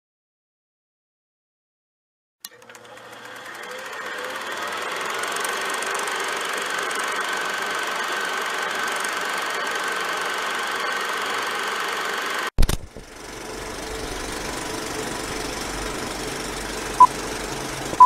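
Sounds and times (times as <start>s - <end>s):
mechanical whirr with fine ticking: 2.4s - 18.0s.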